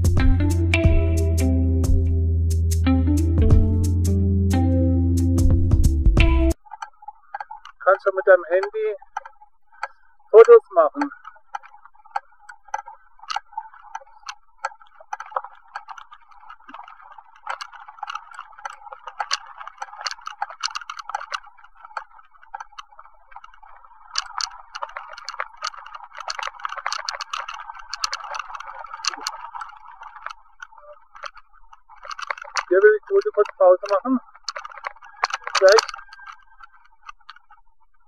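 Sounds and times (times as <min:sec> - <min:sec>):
bicycle rolling noise: 0:05.7 - 0:38.0
bicycle ticking and rattling: 0:06.5 - 0:38.0.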